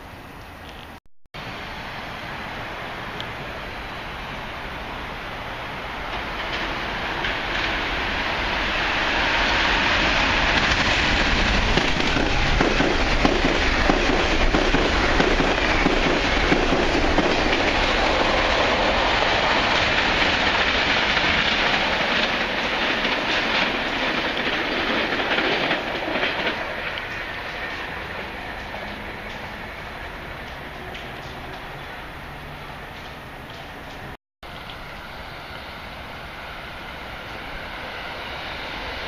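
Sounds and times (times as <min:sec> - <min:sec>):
train wheels rushing on rail: 0:01.4 - 0:39.0.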